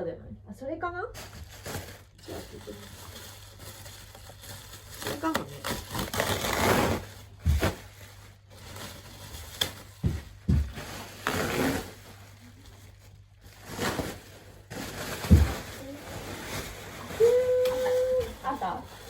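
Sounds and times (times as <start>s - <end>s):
rustling: 1.2s - 19.0s.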